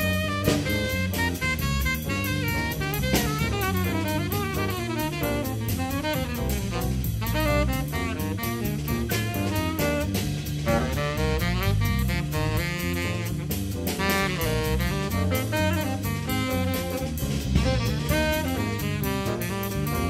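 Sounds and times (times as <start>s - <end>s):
drum kit cymbal strokes: 0.0s - 20.0s
electric bass: 0.0s - 20.0s
tenor saxophone melody: 0.0s - 20.0s.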